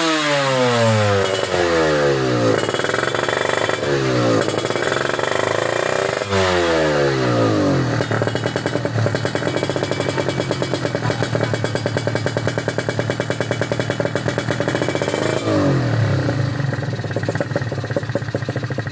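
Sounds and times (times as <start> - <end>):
two-stroke motorcycle engine revving: 0.0 - 18.9.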